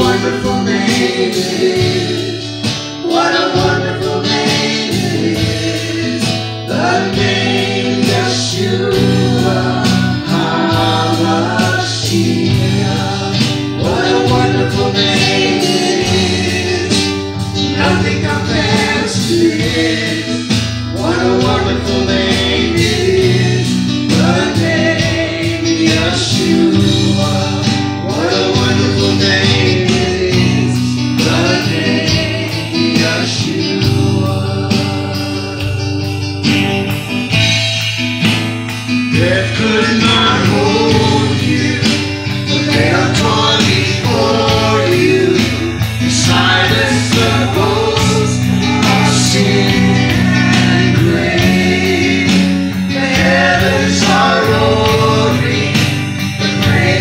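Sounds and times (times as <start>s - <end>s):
acoustic guitar: 0.0s - 57.0s
drum kit: 0.0s - 57.0s
voices singing: 0.0s - 57.0s.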